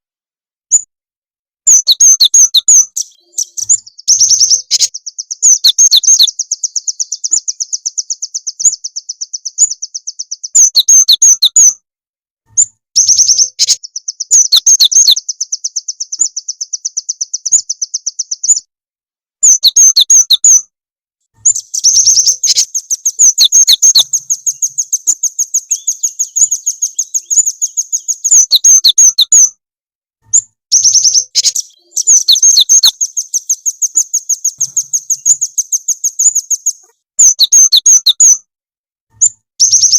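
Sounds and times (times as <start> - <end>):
rapid high-pitched bird chipping: 1.7 - 11.8, 12.5 - 18.7, 19.4 - 20.7, 21.4 - 29.6, 30.3 - 38.5, 39.2 - 39.9.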